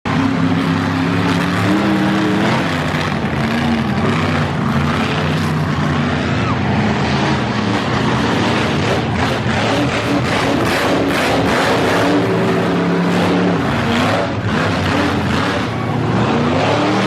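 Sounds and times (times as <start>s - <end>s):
monster truck engine revving: 0.1s - 17.0s.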